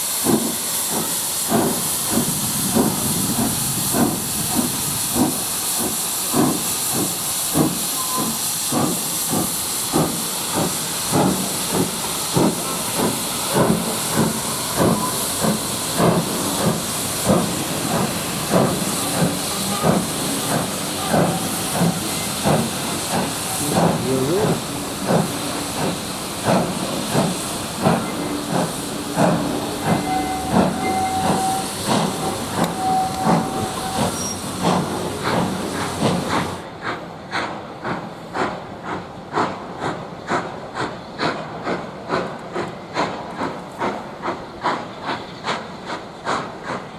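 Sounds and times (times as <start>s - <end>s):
steam hissing: 0.0s - 46.9s
steam locomotive exhaust beats: 0.0s - 46.9s.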